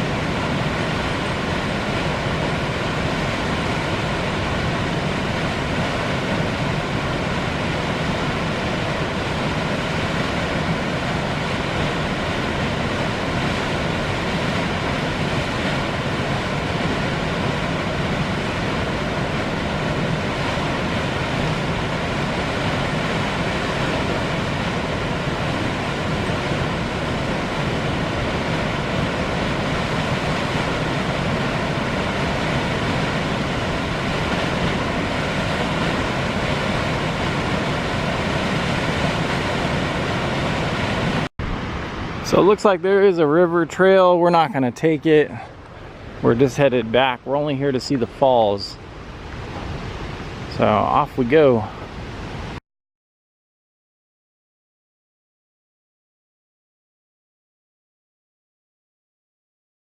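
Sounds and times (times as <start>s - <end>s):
waterfall rushing: 0.0s - 52.6s.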